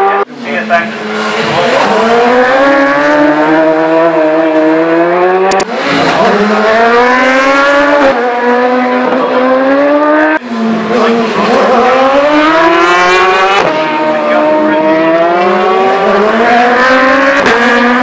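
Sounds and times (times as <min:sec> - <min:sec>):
motorcycle engines accelerating: 0:00.0 - 0:18.0.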